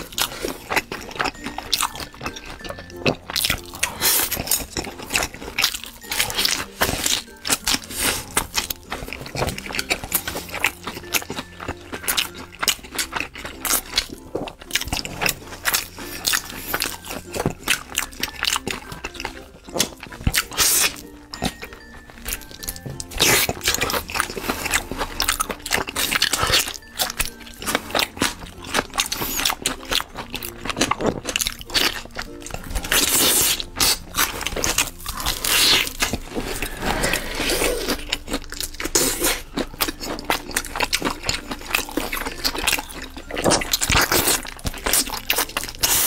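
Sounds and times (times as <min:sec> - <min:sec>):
crunchy chewing: 0:00.0 - 0:46.0.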